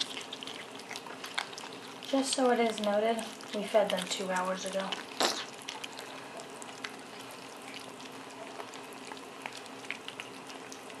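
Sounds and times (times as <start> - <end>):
kittens eating wet food: 0.0 - 11.0.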